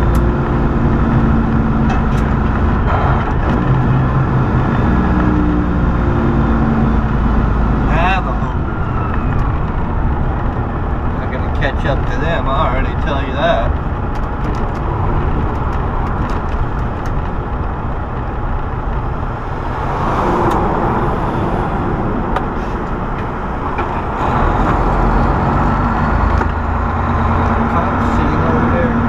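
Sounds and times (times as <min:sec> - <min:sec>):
truck engine and road noise: 0:00.0 - 0:29.0.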